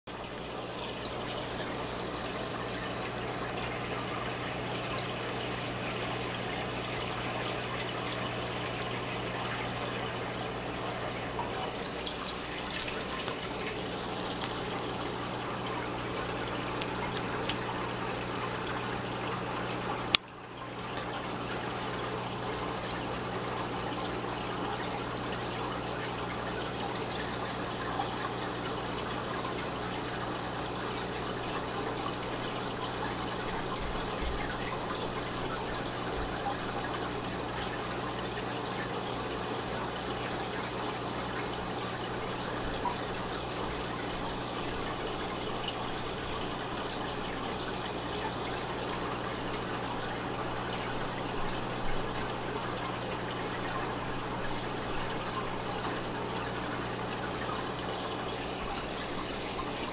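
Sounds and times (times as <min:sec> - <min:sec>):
aquarium water trickling: 0:00.1 - 0:59.9.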